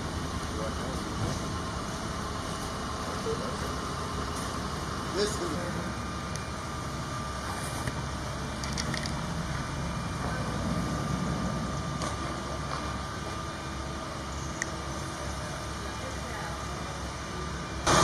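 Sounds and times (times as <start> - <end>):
low engine rumble: 0.0 - 18.0.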